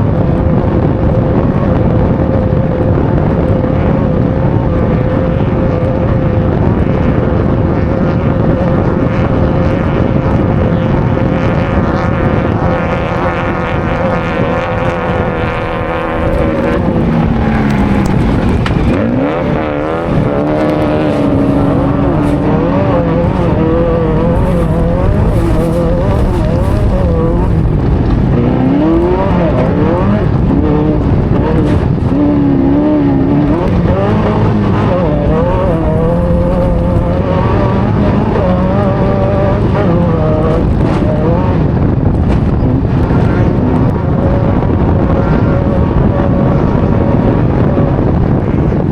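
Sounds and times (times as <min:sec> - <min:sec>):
noisy rush: 0:00.0 - 0:48.9
race vehicle engine revving: 0:00.0 - 0:48.9.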